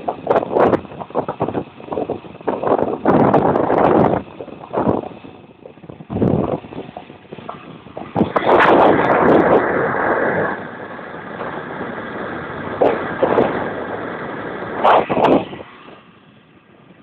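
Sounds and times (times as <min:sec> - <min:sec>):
motor vehicle running: 0:00.0 - 0:17.0.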